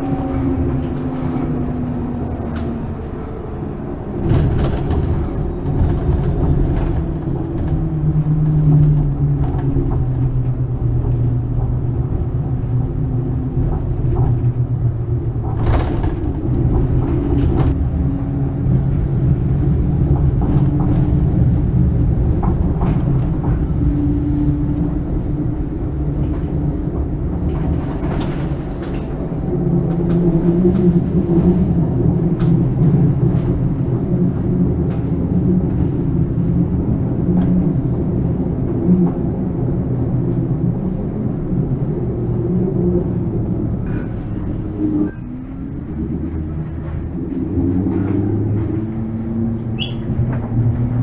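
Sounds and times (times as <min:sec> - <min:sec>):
steel wheels rumbling on rails: 0:00.0 - 0:51.0.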